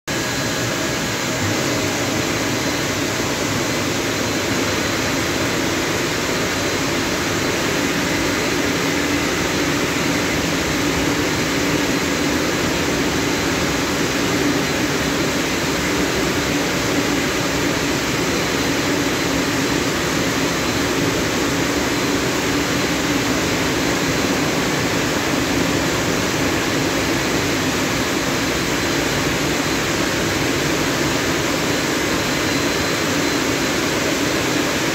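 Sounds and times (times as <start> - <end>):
car wash blower fans rushing air: 0.1 - 34.9.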